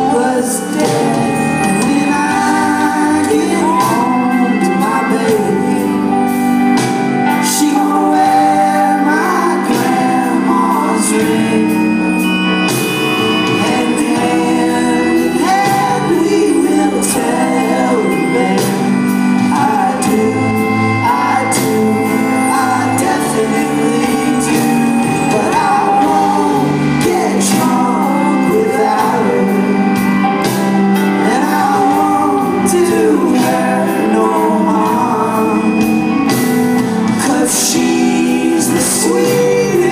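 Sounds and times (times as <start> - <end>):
bass guitar: 0.0 - 39.9
drums: 0.0 - 39.9
electric guitars: 0.0 - 39.9
person singing: 0.0 - 39.9.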